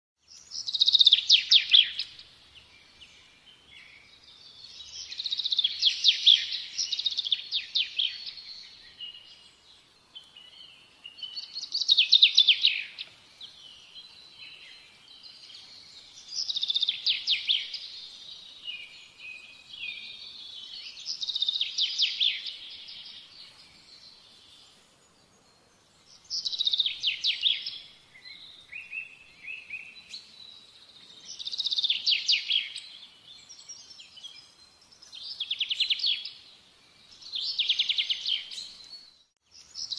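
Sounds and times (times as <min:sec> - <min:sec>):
bird song with falling notes: 0:00.2 - 0:39.9.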